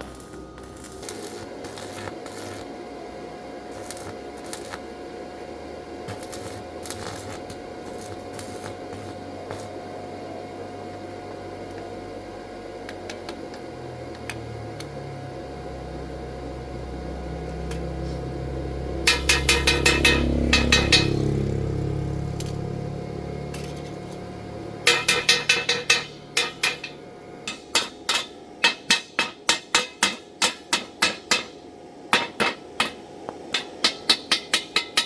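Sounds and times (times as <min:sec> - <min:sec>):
low steady hum: 0:00.0 - 0:32.2.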